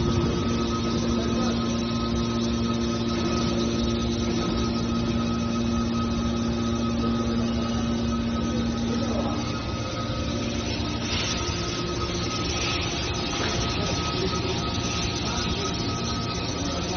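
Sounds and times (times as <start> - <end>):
hydraulic baler machine hum: 0.0 - 16.9.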